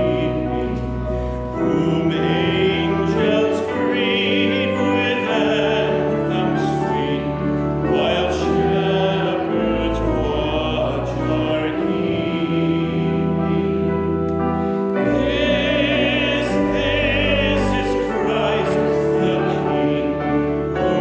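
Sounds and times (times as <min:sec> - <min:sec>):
instrumental accompaniment: 0:00.0 - 0:21.0
voices singing a hymn: 0:00.0 - 0:21.0.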